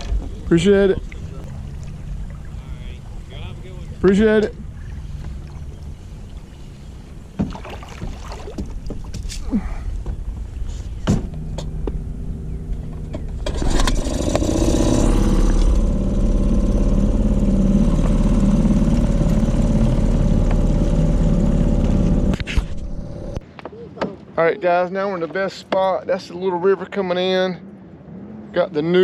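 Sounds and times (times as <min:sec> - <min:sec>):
outboard motor running: 0:00.0 - 0:23.4.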